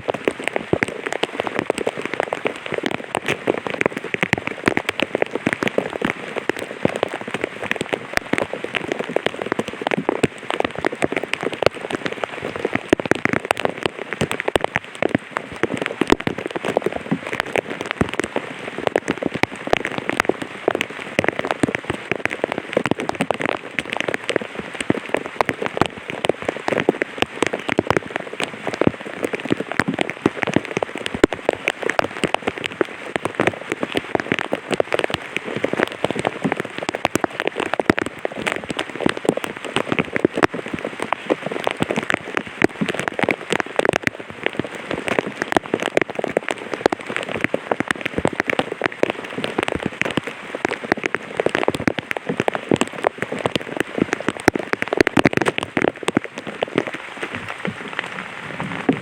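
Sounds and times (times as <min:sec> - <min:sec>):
light rain on an umbrella: 0:00.0 - 0:59.0.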